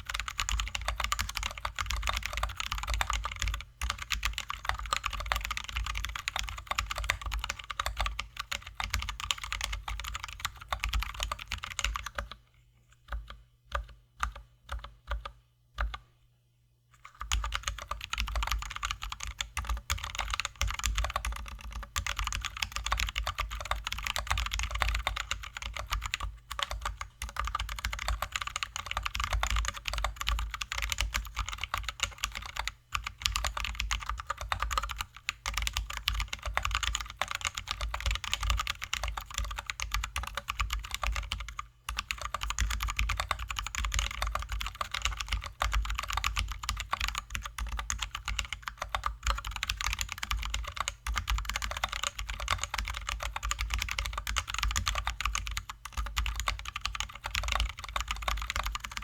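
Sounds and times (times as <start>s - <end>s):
fast typing on mechanical keyboard: 0.0s - 12.4s, 17.1s - 59.0s.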